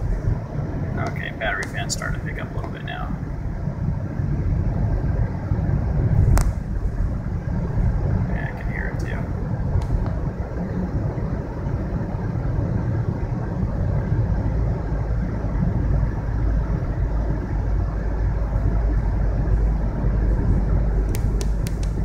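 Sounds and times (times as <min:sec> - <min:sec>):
cooling fan blowing: 0:00.0 - 0:22.0
in-cabin car driving noise: 0:00.0 - 0:22.0.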